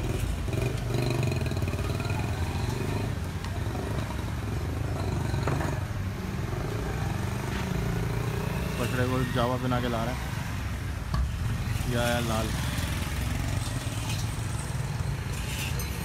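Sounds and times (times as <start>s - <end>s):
cars and motorcycles driving past: 0.0s - 16.0s.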